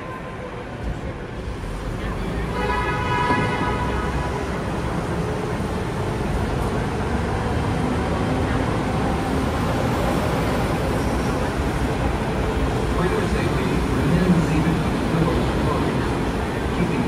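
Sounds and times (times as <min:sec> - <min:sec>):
tram engine and road rumble: 0:00.0 - 0:17.0.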